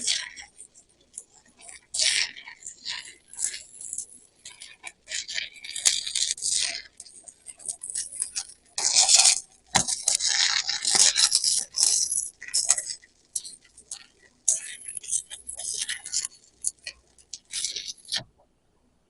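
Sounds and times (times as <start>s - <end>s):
welding arc crackling and hissing: 0.0s - 18.2s.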